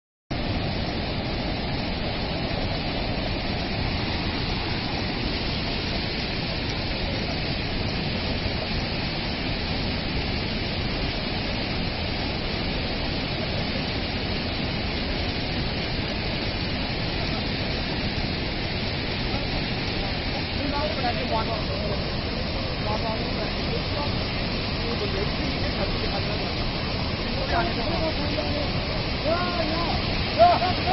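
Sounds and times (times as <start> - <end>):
waterfall rushing: 0.3 - 30.9.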